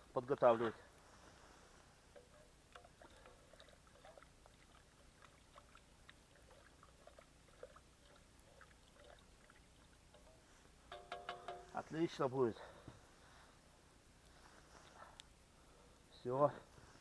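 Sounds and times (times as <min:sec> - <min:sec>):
faint ticks and crackles: 0:00.0 - 0:17.0
low steady hiss: 0:00.0 - 0:17.0.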